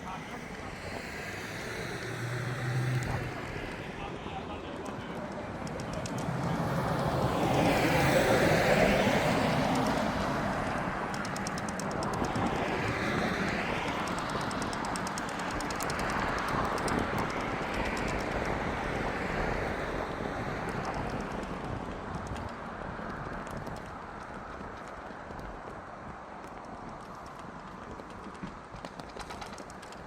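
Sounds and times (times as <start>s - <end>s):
traffic tyre noise on asphalt: 0.0s - 30.0s.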